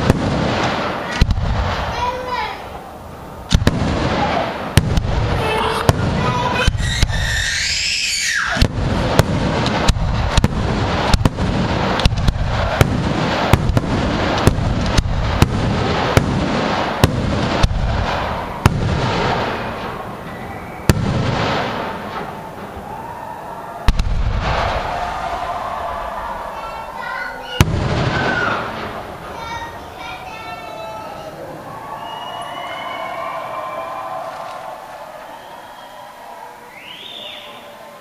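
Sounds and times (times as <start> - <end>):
continuous dense noise: 0.0 - 38.0
fireworks bangs: 0.0 - 38.0.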